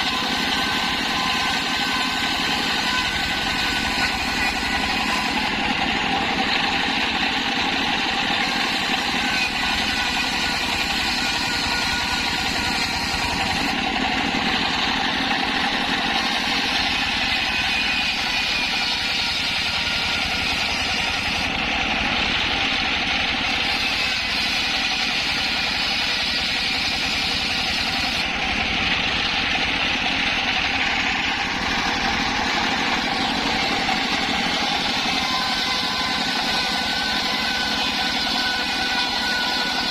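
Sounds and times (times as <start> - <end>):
saw blade whining: 0.0 - 39.9
sawmill engine running: 0.0 - 39.9.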